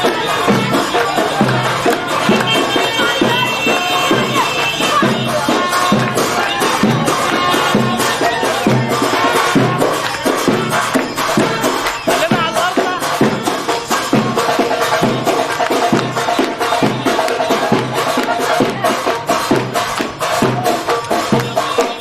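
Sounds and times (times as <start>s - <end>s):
fast hand percussion: 0.0s - 22.0s.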